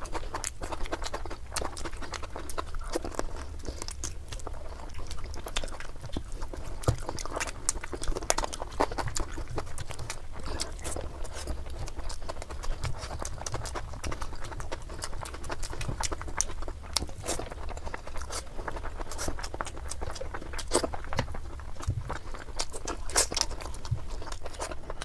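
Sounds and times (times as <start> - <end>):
person chewing and smacking: 0.0 - 25.0
steady low hum: 0.0 - 25.0.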